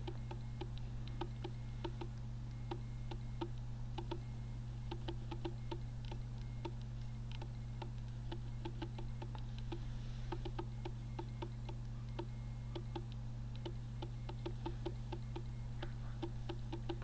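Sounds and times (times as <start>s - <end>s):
faint ticking clicks: 0.0s - 17.0s
low hum: 0.0s - 17.0s.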